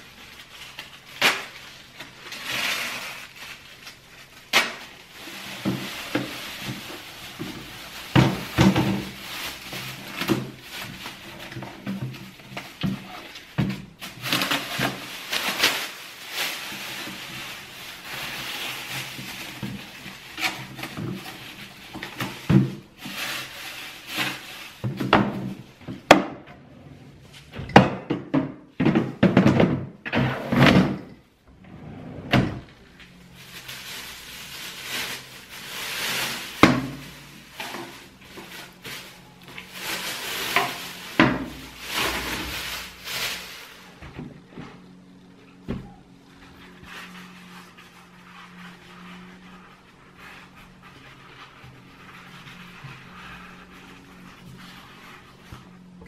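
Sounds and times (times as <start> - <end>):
plastic bin liner rustling: 0.0 - 56.0.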